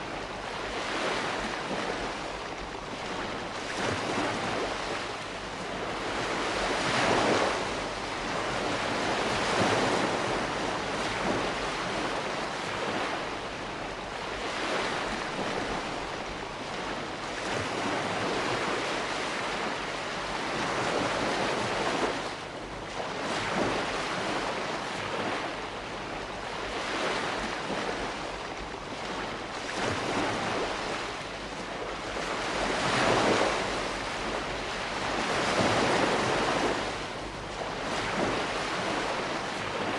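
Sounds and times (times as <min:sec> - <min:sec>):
surf washing onto shore: 0:00.0 - 0:39.9.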